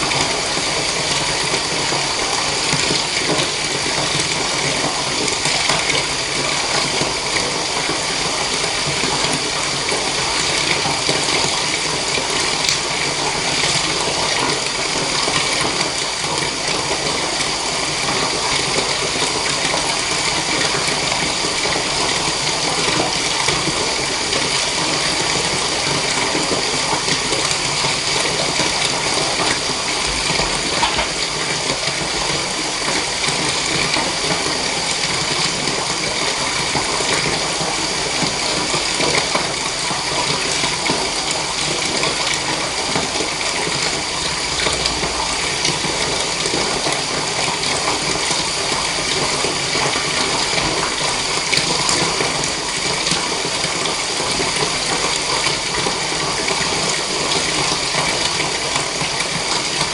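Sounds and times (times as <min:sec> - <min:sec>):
tap water running into bathtub: 0:00.0 - 0:59.9.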